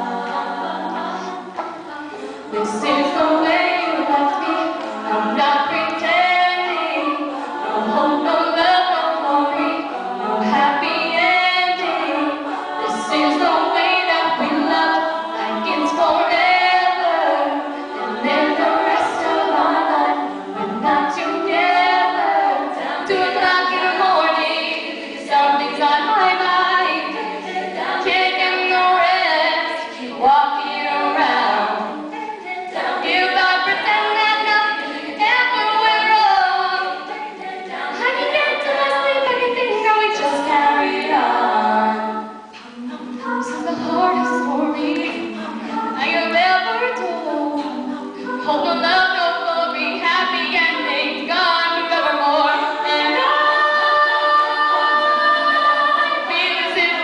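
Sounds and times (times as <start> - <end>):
female a cappella group singing: 0.0 - 57.0.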